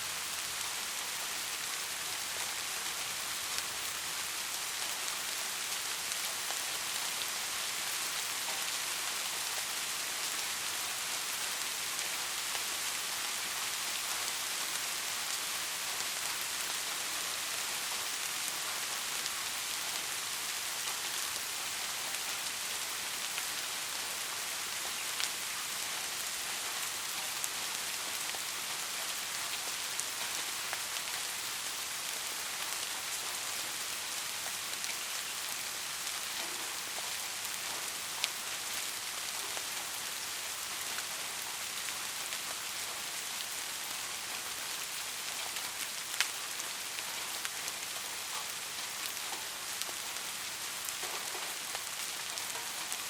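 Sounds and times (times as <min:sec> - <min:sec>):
steady rain hissing: 0:00.0 - 0:53.0
raindrops ticking close by: 0:00.3 - 0:53.0.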